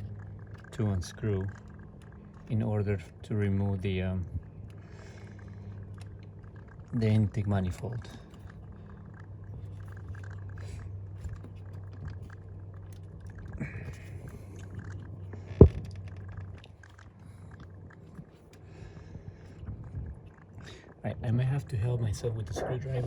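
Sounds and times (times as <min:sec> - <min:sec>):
faint scraping and small clicks: 0:00.0 - 0:23.0
steady low hum: 0:00.0 - 0:23.0.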